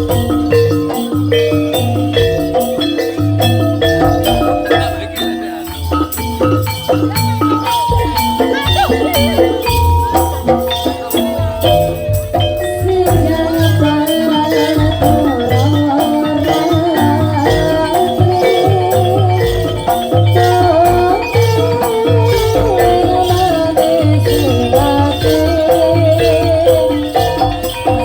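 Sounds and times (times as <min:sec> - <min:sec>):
low drum beats: 0:00.0 - 0:28.0
struck metal percussion ringing: 0:00.0 - 0:28.0.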